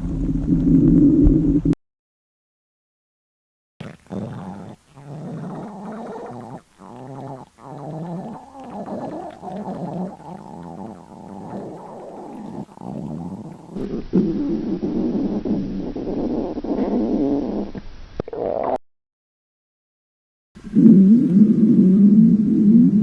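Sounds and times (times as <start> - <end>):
stomach growling: 0.0 - 1.8, 3.8 - 18.8, 20.6 - 23.0.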